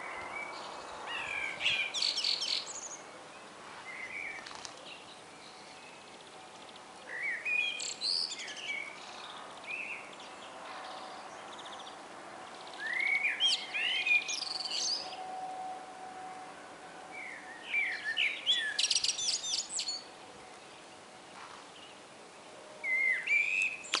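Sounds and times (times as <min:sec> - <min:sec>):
blackbird singing: 0:00.0 - 0:03.0, 0:03.9 - 0:15.4, 0:17.1 - 0:20.9, 0:22.8 - 0:24.0.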